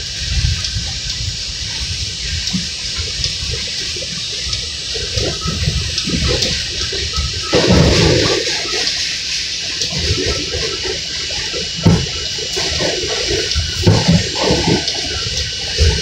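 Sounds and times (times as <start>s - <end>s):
subway car rushing hiss: 0.0s - 16.0s.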